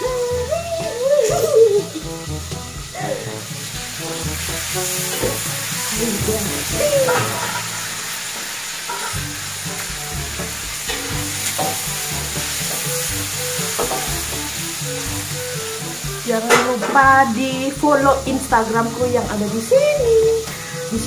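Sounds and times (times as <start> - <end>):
chilies sizzling in hot oil: 0.0 - 21.0.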